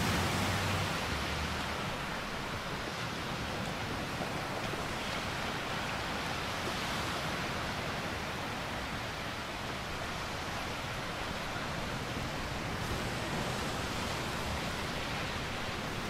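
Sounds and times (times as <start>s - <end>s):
small waves washing onto beach: 0.0s - 16.0s.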